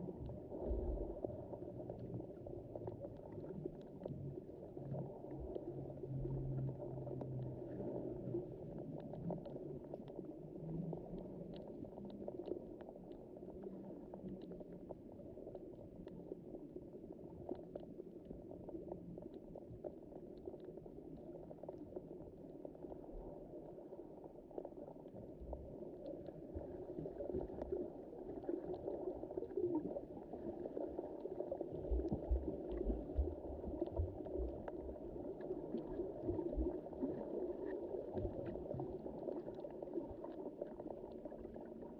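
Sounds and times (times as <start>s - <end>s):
faint clicks and crackles: 0.0s - 41.9s
underwater water wash: 0.0s - 41.9s.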